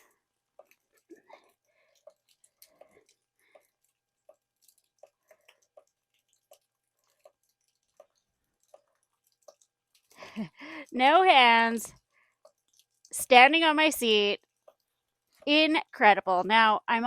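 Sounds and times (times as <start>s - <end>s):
faint irregular ticks: 0.0s - 16.0s.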